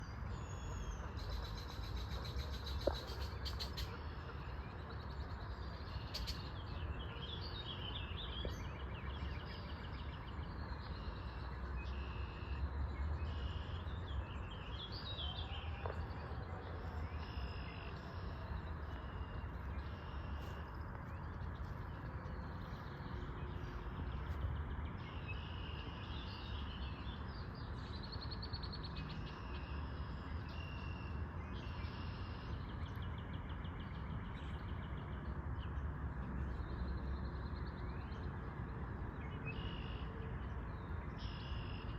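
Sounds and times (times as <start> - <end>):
small birds chirping and singing: 0.0 - 41.9.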